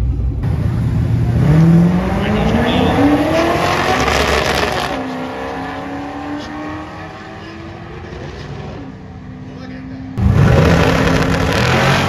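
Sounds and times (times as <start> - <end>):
car engine accelerating: 0.0 - 9.3, 10.0 - 12.0.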